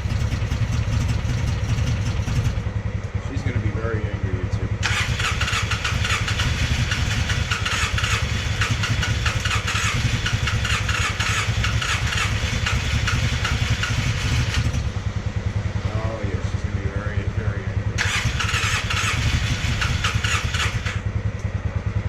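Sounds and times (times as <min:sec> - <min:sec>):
engine cranking and sputtering: 0:00.0 - 0:15.1, 0:15.9 - 0:21.5.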